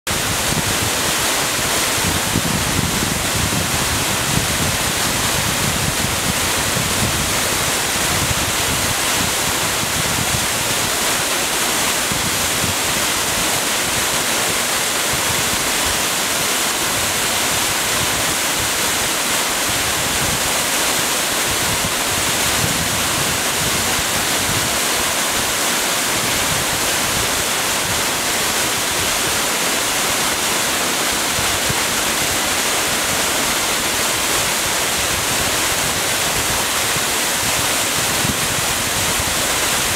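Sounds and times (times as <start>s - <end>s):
waterfall rushing: 0.1s - 39.9s.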